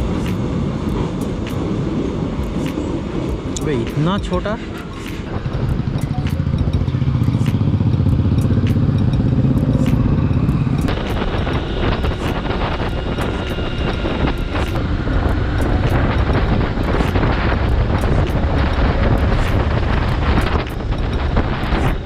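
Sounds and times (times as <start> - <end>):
wind and road noise rushing: 0.0 - 22.0
motorcycle engine rumble: 4.2 - 22.0.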